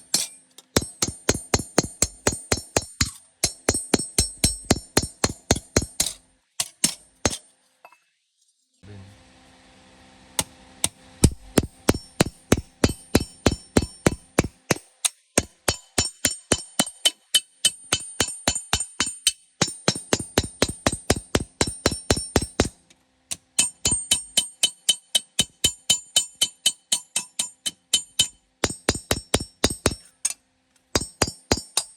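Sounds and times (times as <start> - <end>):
hammer striking metal: 0.0 - 7.4, 11.2 - 31.9.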